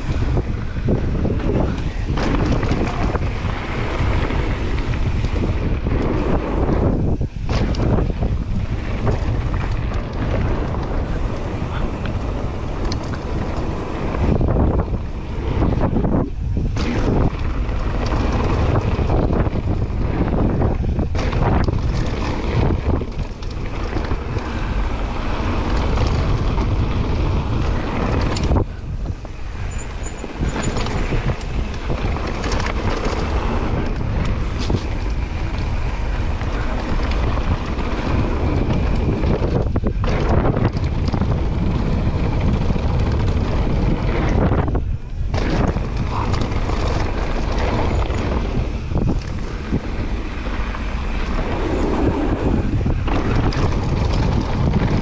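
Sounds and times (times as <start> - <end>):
bike knocks and rattles: 0.0 - 55.0
tyres rolling over dirt trail: 0.0 - 55.0
wind buffeting microphone: 0.0 - 55.0.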